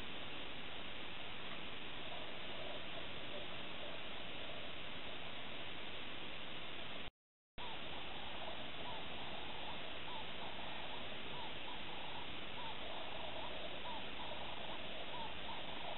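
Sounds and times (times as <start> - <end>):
constant hiss: 0.0 - 15.9.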